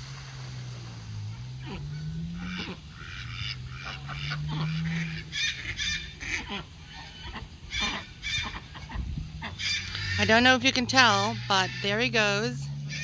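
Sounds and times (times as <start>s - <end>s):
low steady hum: 0.0s - 13.0s
birds calling: 0.5s - 13.0s.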